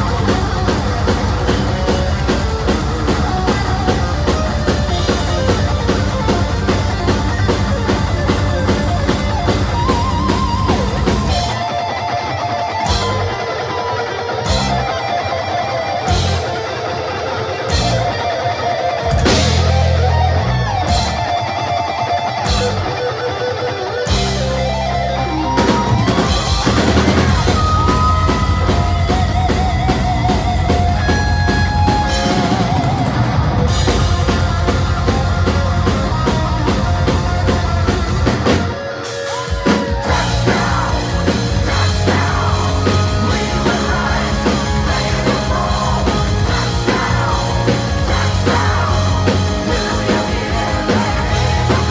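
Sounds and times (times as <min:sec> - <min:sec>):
heavy metal band playing live: 0:00.0 - 0:51.9.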